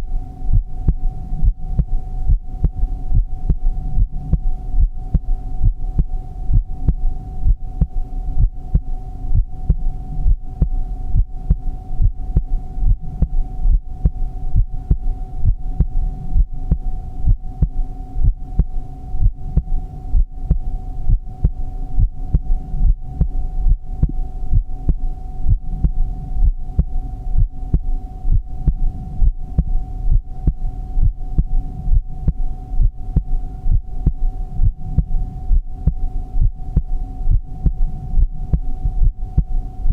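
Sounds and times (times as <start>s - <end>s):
heartbeat thumps: 0.0s - 39.9s
steady hum: 0.0s - 39.9s.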